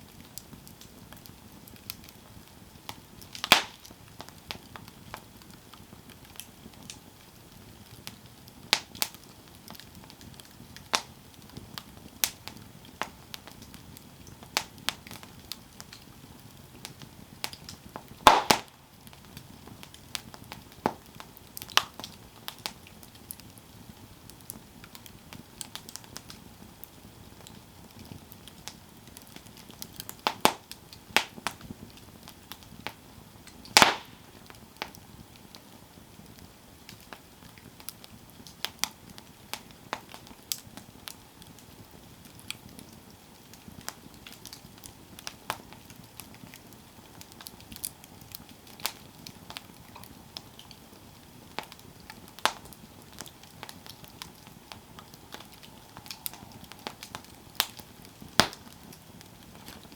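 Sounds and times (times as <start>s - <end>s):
campfire crackling and popping: 0.0s - 59.9s
faint steady hiss: 0.0s - 59.9s.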